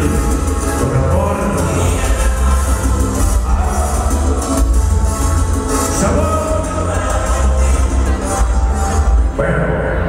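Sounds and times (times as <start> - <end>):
heavy bass: 0.0 - 10.0
loud dance music: 0.0 - 10.0.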